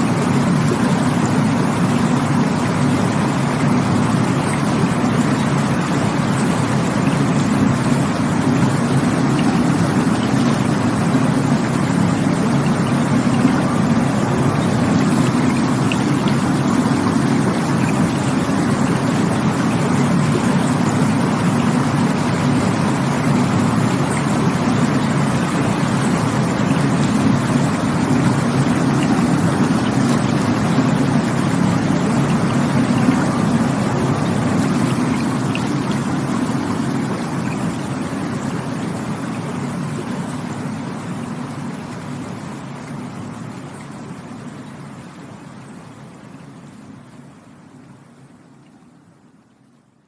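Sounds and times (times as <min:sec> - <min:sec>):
rushing water: 0:00.0 - 0:50.0.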